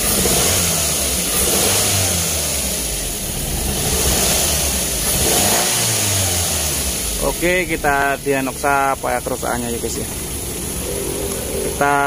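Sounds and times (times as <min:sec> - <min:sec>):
misfiring car engine drone: 0:00.0 - 0:12.0.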